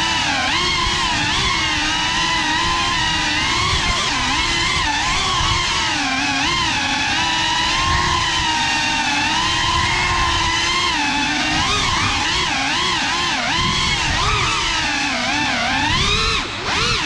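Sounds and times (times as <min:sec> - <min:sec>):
drone motors and props whining: 0:00.0 - 0:17.0.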